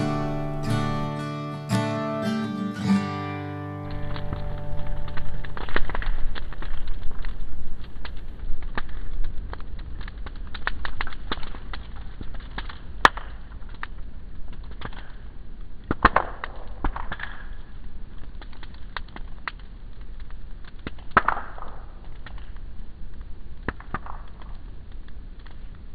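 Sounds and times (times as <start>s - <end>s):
loud fire pops with hiss: 0.0s - 1.2s, 3.8s - 25.9s
wood fire crackling: 0.0s - 25.9s.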